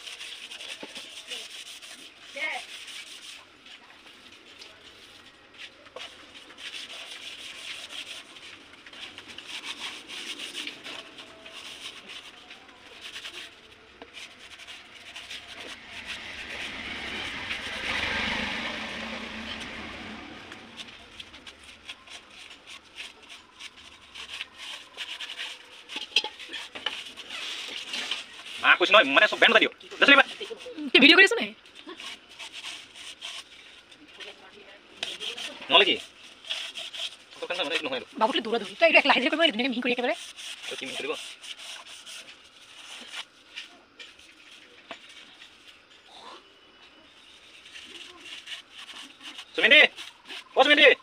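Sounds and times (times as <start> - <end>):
hands scraping bamboo tube: 0.0 - 46.1, 47.1 - 51.0.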